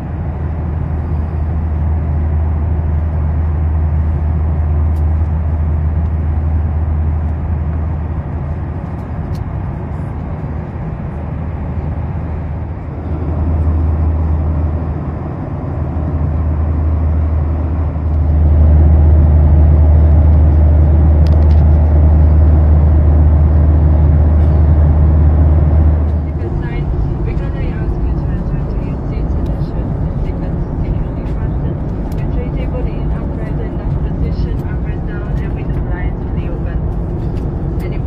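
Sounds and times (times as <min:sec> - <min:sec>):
aircraft cabin engine drone: 0:00.0 - 0:38.0.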